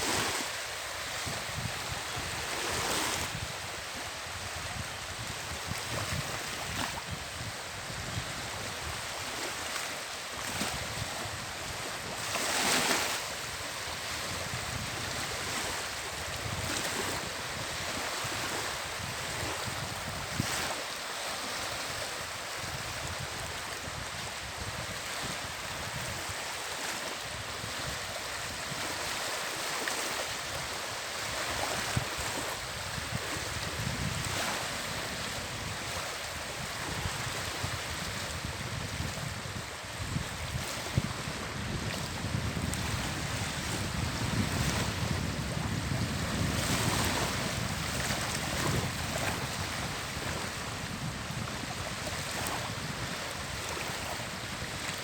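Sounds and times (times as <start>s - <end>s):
sea waves washing on shore: 0.0s - 55.0s
wind on microphone: 0.0s - 55.0s.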